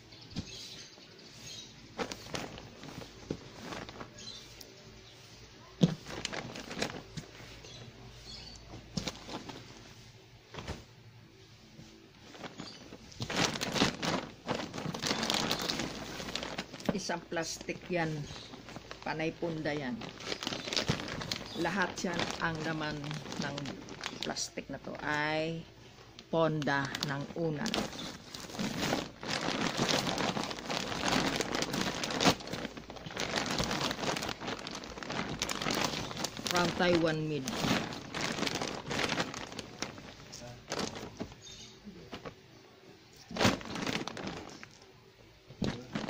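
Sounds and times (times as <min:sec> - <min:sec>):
plastic bags rustling and crinkling: 0:00.0 - 0:44.9, 0:45.5 - 0:46.0.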